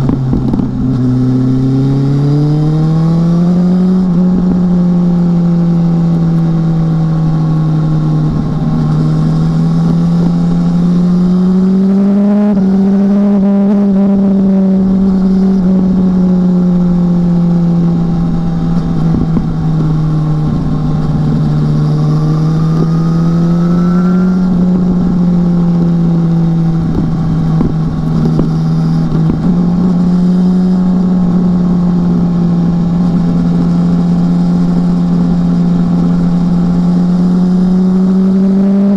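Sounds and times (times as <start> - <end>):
motorcycle engine running: 0.0 - 38.9
wind rumble: 0.0 - 38.9.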